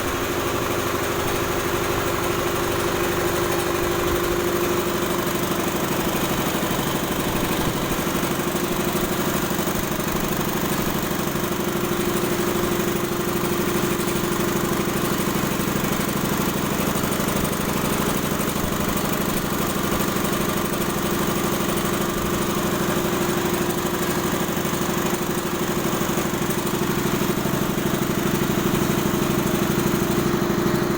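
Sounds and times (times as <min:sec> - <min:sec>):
air compressor running: 0:00.0 - 0:30.9.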